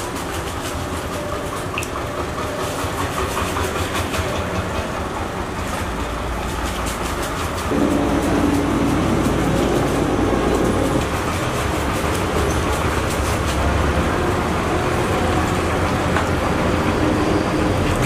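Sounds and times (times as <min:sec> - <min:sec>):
broth bubbling at a rolling boil: 0:00.0 - 0:18.0.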